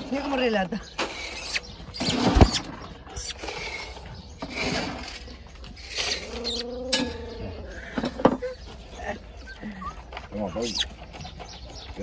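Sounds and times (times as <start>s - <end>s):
puppies squeaking and grumbling: 0.0s - 12.0s.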